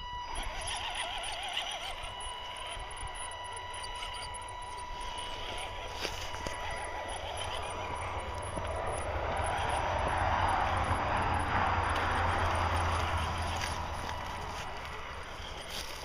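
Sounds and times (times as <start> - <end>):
toy car motor whirring: 0.0 - 16.0.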